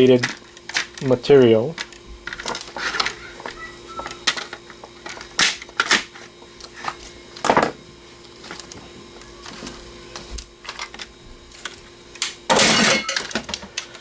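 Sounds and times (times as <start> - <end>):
dvd drive parts clattering: 0.0 - 14.0.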